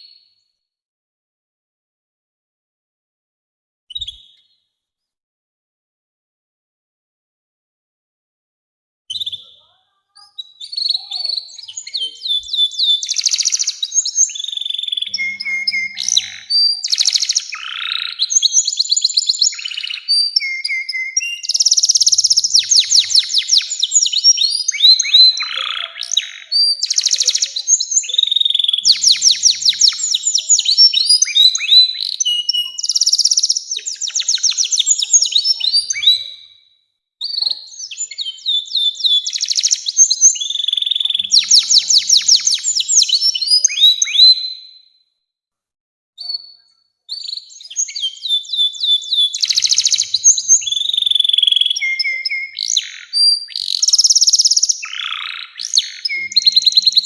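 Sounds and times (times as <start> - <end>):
canary singing trills: 9.1 - 36.6, 37.2 - 44.8, 46.2 - 57.0.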